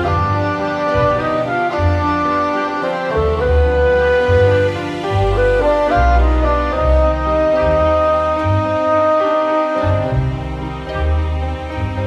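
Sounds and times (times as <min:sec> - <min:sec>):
deep bass line: 0:00.0 - 0:12.0.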